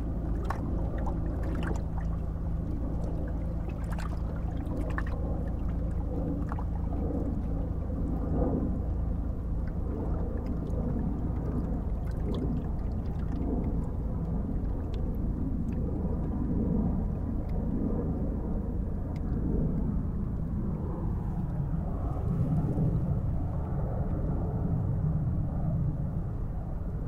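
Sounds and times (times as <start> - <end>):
distant traffic rumble: 0.0 - 27.0.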